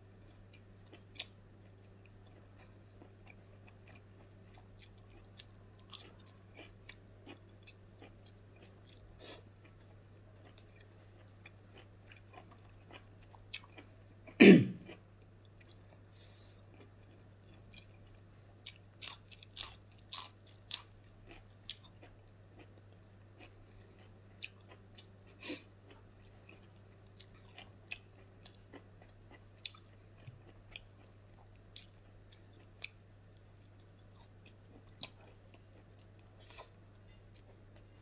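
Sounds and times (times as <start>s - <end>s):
person chewing crunchy food: 0.2s - 13.9s, 14.8s - 38.0s.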